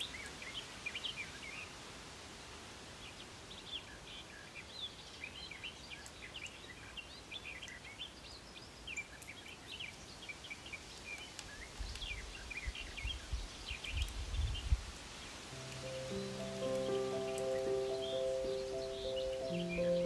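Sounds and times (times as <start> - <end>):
small birds chirping: 0.0 - 1.8, 2.9 - 20.0.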